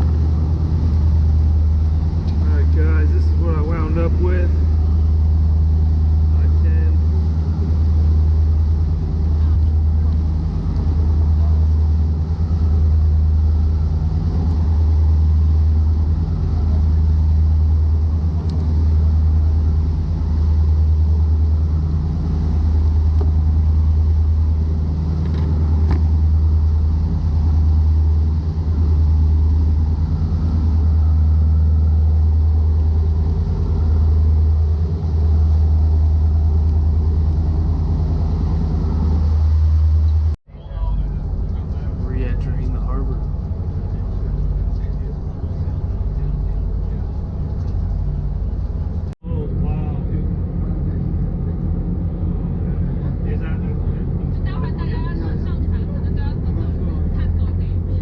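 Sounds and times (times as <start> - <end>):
boat engine droning: 0.0 - 58.0
wind and water wash: 0.0 - 58.0.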